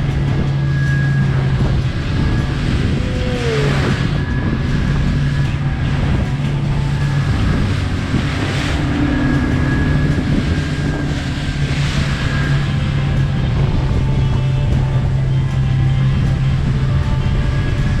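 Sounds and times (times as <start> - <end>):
boat engine running: 0.0 - 18.0
water wash: 0.0 - 18.0
wind noise: 0.0 - 18.0.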